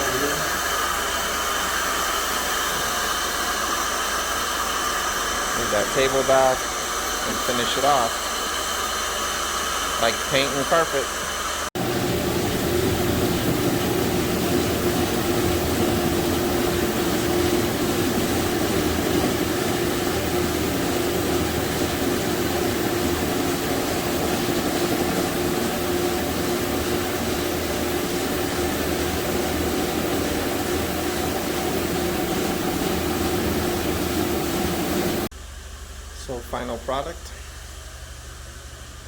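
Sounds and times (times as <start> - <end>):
carpet cleaning machine running: 0.0 - 39.0.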